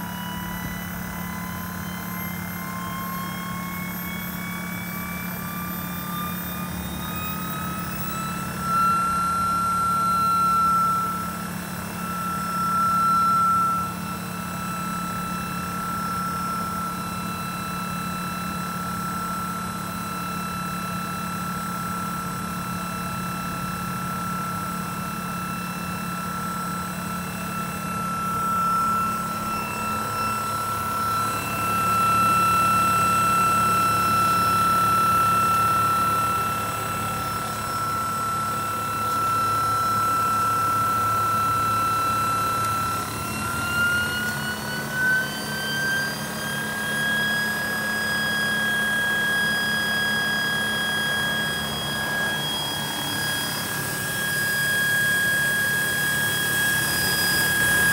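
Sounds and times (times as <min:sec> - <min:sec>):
gas turbine high whine: 0:00.0 - 0:57.9.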